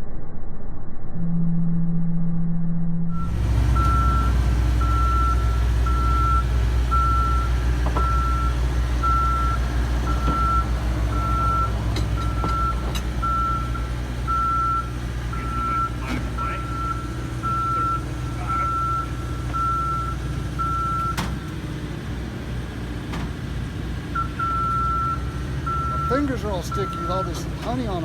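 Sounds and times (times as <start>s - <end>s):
truck engine running: 3.1s - 28.0s
truck reversing alarm beeping: 3.1s - 28.0s.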